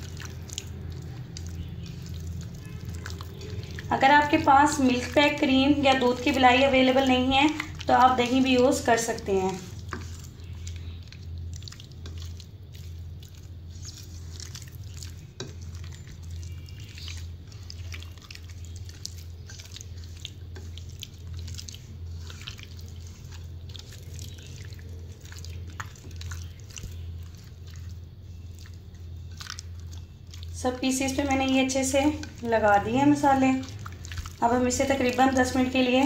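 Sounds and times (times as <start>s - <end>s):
hand squelching raw chicken: 0.0s - 36.0s
steady low hum: 0.0s - 36.0s.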